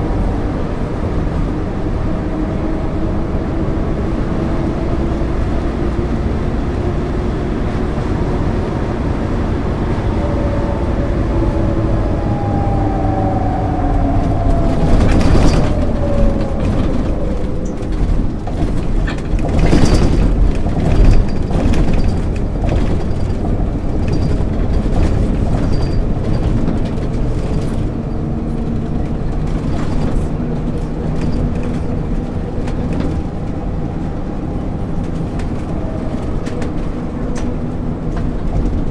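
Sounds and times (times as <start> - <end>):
bus engine and driveline whine: 0.0 - 38.9.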